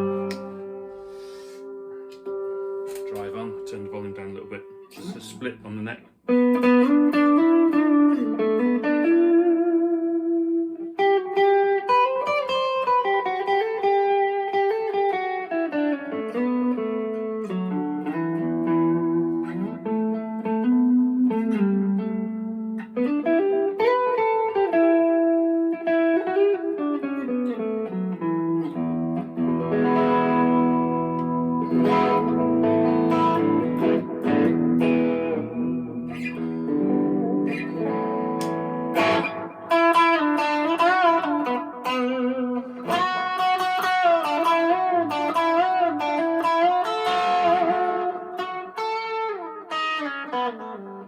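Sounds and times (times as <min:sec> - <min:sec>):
overdriven electric guitar: 0:00.0 - 0:51.0.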